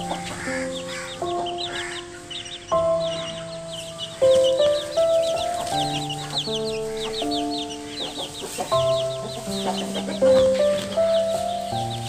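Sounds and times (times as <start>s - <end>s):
background music of held notes: 0.0s - 12.0s
chicks peeping: 0.0s - 12.0s.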